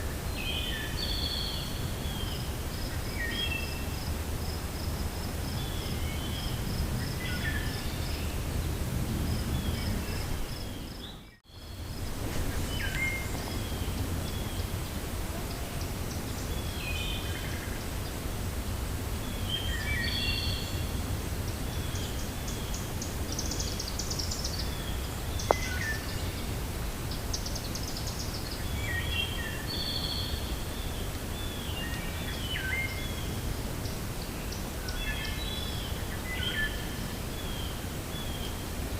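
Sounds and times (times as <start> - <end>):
songbirds chirping: 0.0 - 38.9
wind rumbling: 0.0 - 38.9.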